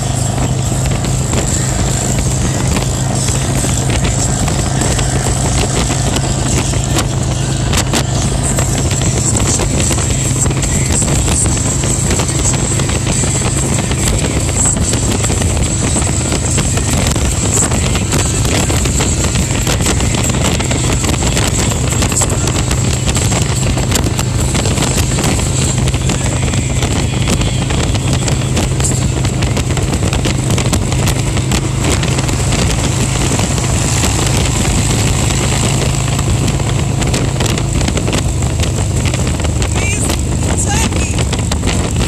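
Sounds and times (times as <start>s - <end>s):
motorcycle engine cruising: 0.0s - 42.0s
road noise: 0.0s - 42.0s
wind rush: 0.0s - 42.0s.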